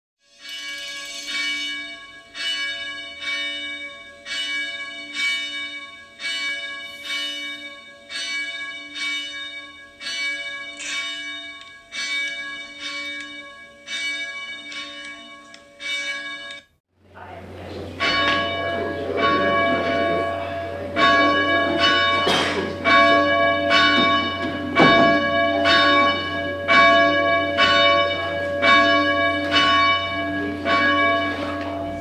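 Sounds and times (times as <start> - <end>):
church bell tolling: 0.3 - 32.0.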